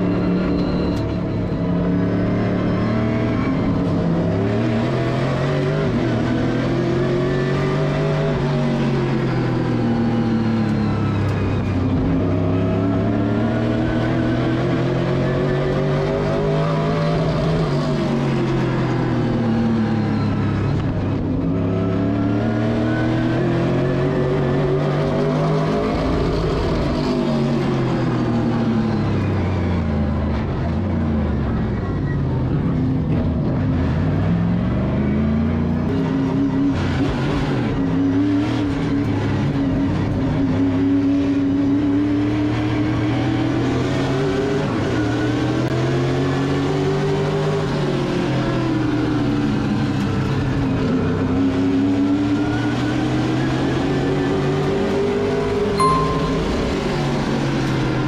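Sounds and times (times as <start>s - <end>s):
race car engine: 0.0s - 58.0s.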